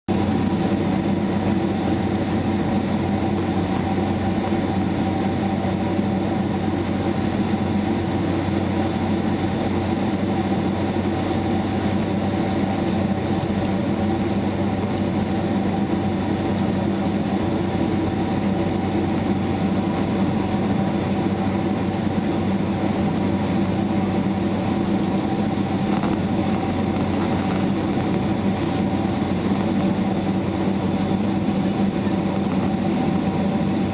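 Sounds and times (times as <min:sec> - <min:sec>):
airliner cabin air rush: 0:00.1 - 0:33.9.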